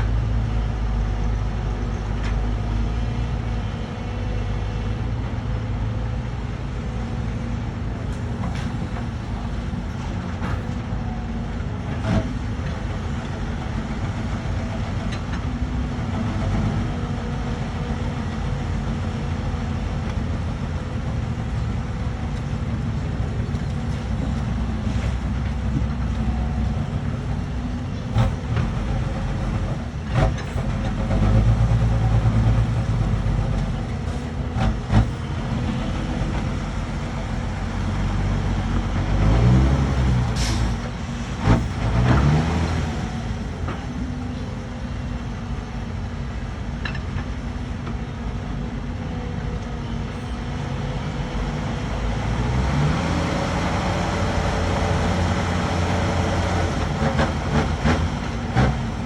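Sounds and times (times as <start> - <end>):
excavator diesel engine droning: 0.0 - 59.0.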